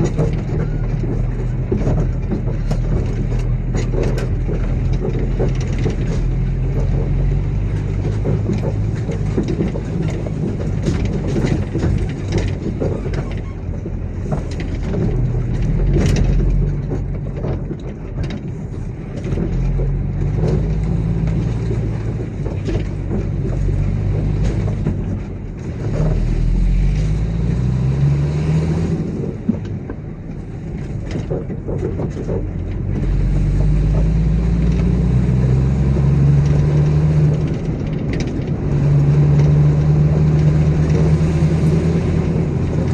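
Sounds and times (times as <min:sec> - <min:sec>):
clanks and knocks: 0:00.0 - 0:42.9
diesel engine revving: 0:00.0 - 0:42.9.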